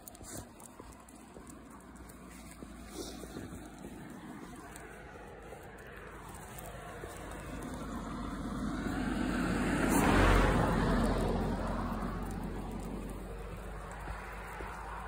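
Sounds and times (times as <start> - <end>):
car passing by: 0.0 - 15.0.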